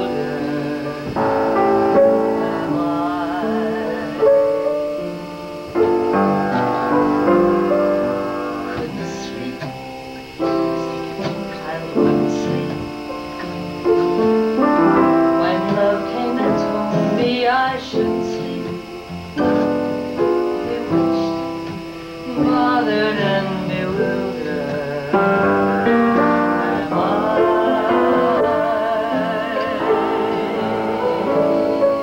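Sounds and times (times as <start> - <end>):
person singing with vibrato: 0.0 - 32.0
piano chords: 0.0 - 32.0.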